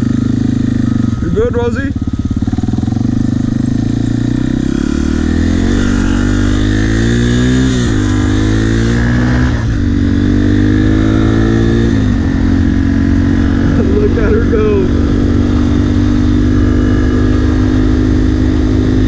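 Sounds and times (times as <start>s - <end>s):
dirt bike engine accelerating: 0.0s - 19.0s.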